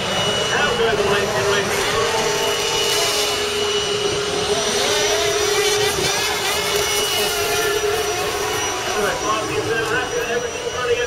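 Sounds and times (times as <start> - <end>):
jet engine running: 0.0 - 11.0.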